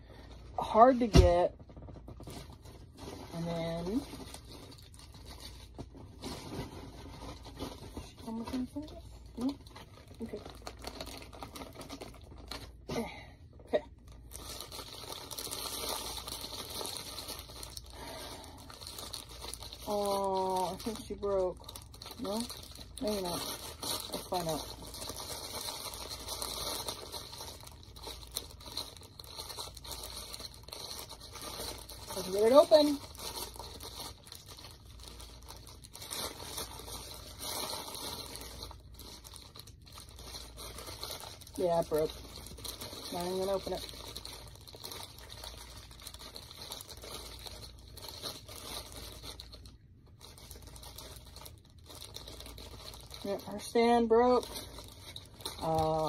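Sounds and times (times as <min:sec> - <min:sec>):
plastic wrapping crinkling: 0:00.0 - 0:56.0.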